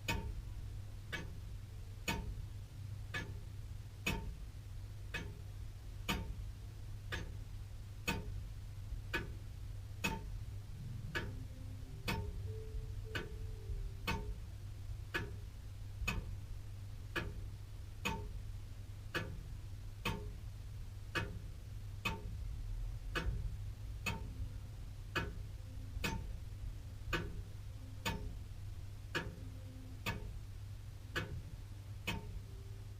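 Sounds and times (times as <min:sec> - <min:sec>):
clock ticking: 0:00.0 - 0:00.4, 0:01.0 - 0:01.4, 0:02.0 - 0:02.4, 0:03.1 - 0:04.4, 0:05.1 - 0:16.4, 0:17.0 - 0:22.4, 0:23.1 - 0:32.7
low steady hum: 0:00.0 - 0:32.9.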